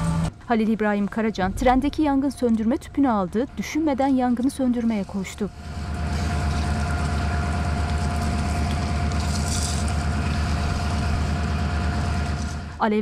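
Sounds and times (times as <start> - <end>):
locomotive engine idling: 0.0 - 12.9
thin steady whine: 1.6 - 12.9.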